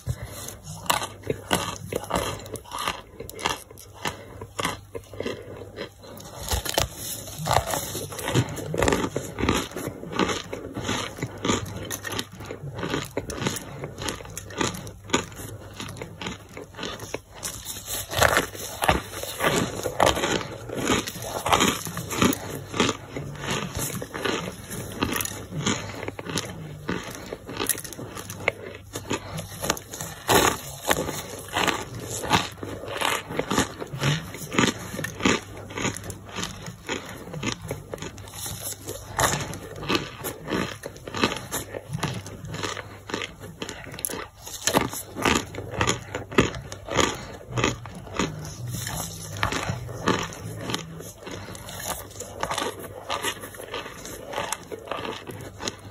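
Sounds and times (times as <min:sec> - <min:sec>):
brick crunching and crumbling: 0:00.0 - 0:55.9.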